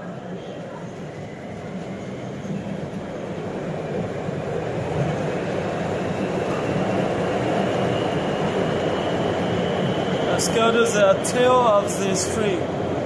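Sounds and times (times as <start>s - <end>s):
train wheels and air rumbling: 0.0s - 13.0s.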